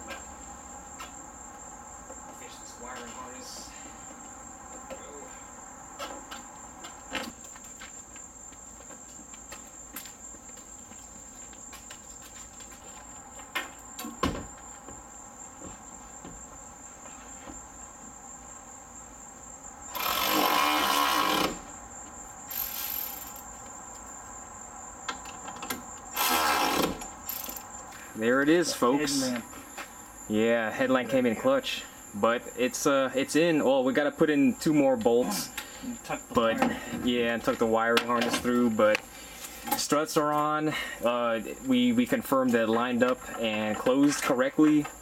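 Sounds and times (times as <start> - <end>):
crickets chirring: 0.0 - 45.0.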